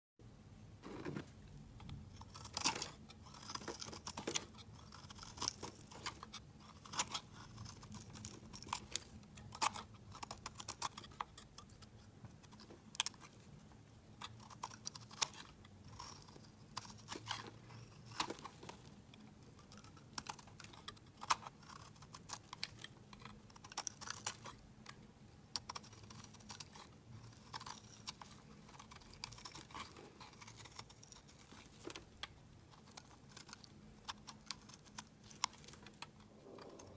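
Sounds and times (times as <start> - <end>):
knife cutting soap crunches: 1.8 - 13.3, 14.2 - 36.9.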